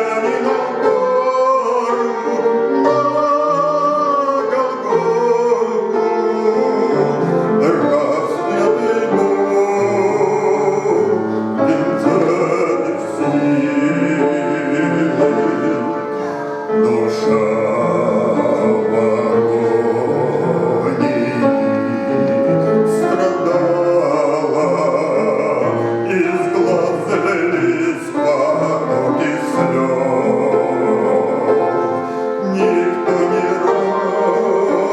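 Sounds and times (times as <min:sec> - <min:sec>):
instrumental accompaniment: 0:00.0 - 0:34.9
man singing a hymn: 0:00.0 - 0:34.9.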